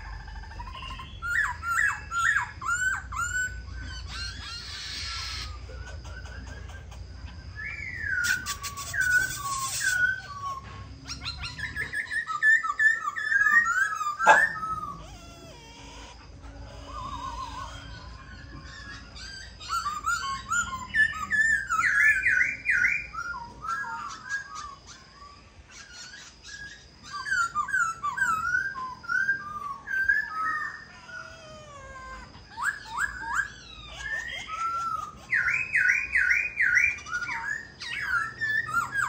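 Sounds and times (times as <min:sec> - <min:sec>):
bird whistling song: 0:00.0 - 0:39.0
harsh rattling call: 0:00.0 - 0:39.0.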